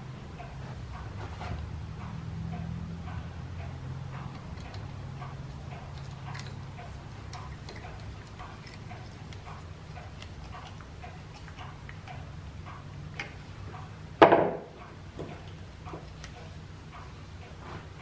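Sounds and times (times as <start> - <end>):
regular ticking: 0.0 - 18.0.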